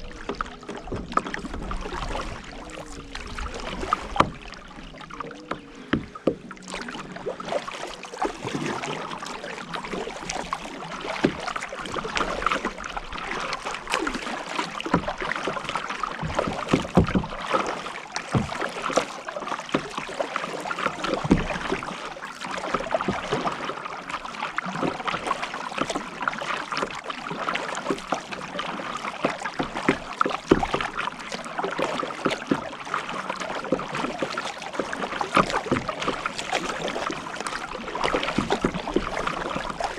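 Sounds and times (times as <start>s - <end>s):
paddle splashing in water: 0.0s - 39.9s
water running off paddle: 0.0s - 39.9s.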